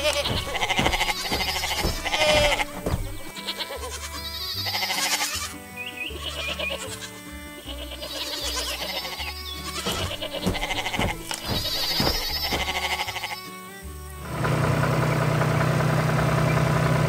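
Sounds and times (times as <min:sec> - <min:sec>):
sheep bleating: 0:00.0 - 0:13.9
light background music: 0:00.0 - 0:14.4.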